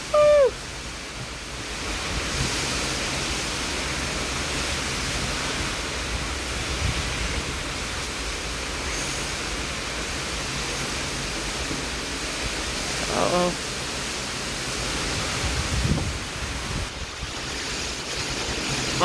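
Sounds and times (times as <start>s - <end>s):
heavy rain beating on a car: 0.0s - 19.0s.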